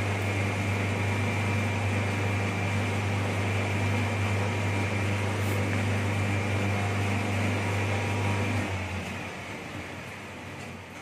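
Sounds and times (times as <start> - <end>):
planer machine humming and whining: 0.0 - 11.0.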